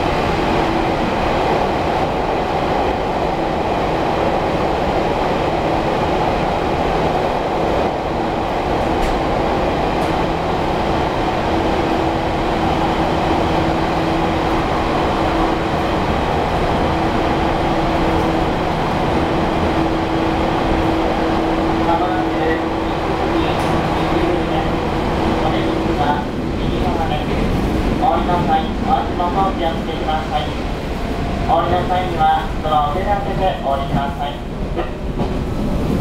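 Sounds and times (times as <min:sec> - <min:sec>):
train motor hum: 0:00.0 - 0:36.0
wheels rumbling on rail: 0:00.0 - 0:36.0.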